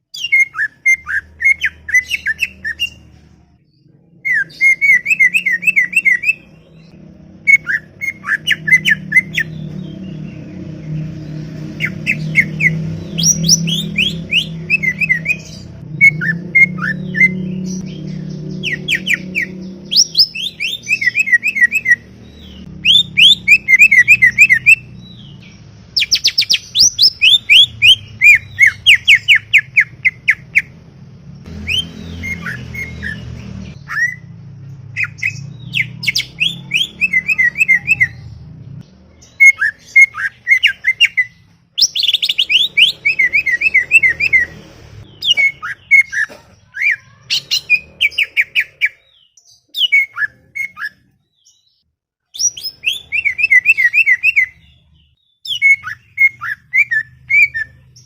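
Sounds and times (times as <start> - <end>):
bird singing whistled notes: 0.0 - 3.1, 4.1 - 6.9, 7.5 - 30.7, 31.5 - 34.3, 34.9 - 38.4, 39.1 - 58.0.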